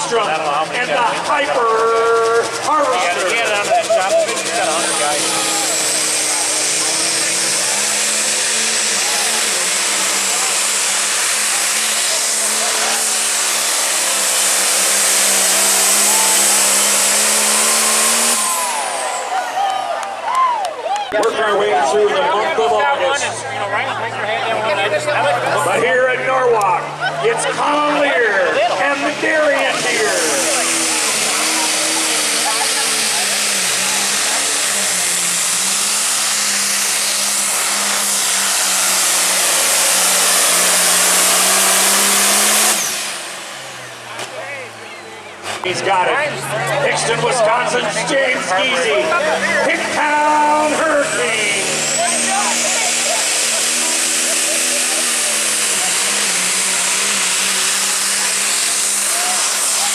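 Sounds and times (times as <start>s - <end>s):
diesel engine high revving: 0.0s - 59.9s.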